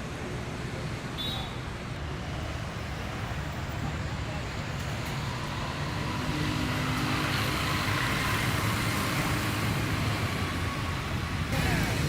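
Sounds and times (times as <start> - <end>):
street traffic: 0.0 - 12.0
vehicle engine running nearby: 0.0 - 12.0.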